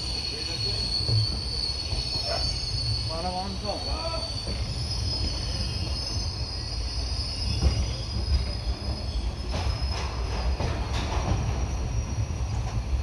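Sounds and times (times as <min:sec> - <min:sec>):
high wheel squeal: 0:00.0 - 0:13.0
train coaches rumbling: 0:00.0 - 0:13.0.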